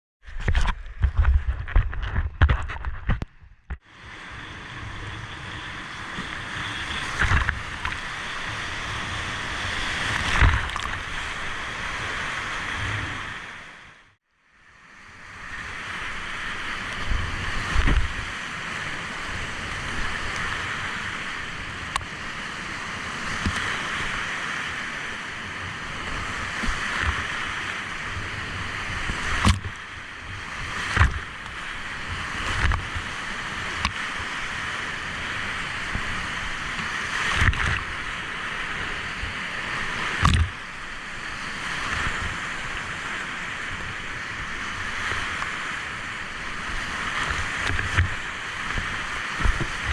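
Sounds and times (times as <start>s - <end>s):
river water rushing: 3.9s - 14.0s, 14.7s - 49.9s.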